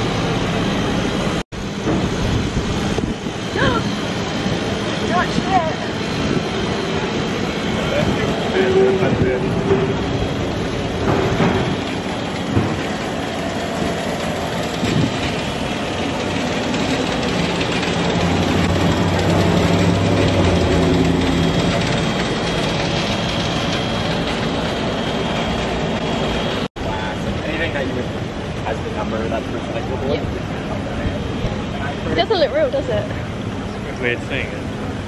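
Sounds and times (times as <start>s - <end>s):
city street noise: 0.0s - 35.0s
vehicle engine humming: 0.0s - 35.0s.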